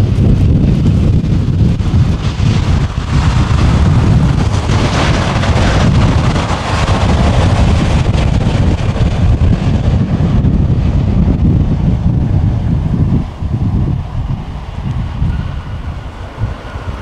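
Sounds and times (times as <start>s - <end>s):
jet engines of landing airliner: 0.0s - 17.0s
wind buffeting microphone: 0.0s - 17.0s.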